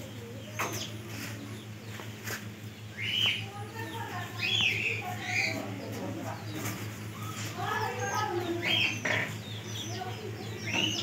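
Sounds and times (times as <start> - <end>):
steady low hum: 0.0 - 11.0
bird chirps: 0.3 - 11.0.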